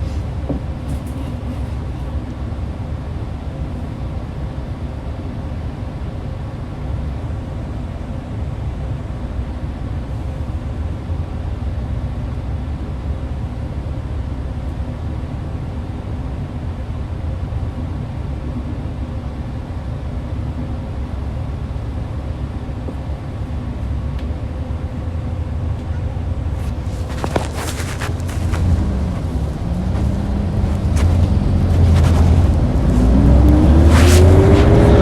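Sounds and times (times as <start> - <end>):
bus engine running: 0.0 - 35.0.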